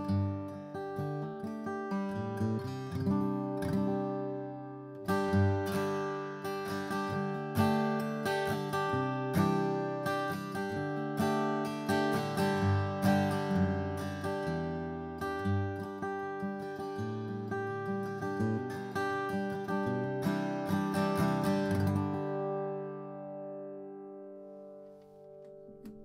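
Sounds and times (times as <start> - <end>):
acoustic guitar picked notes: 0.0 - 26.0
acoustic guitar strumming chords: 0.0 - 26.0.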